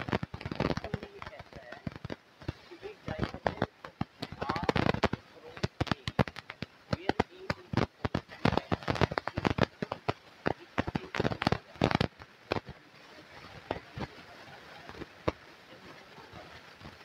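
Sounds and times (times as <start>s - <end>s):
sharp cracks and pops: 0.0s - 15.4s
faint steady background noise: 0.0s - 17.0s.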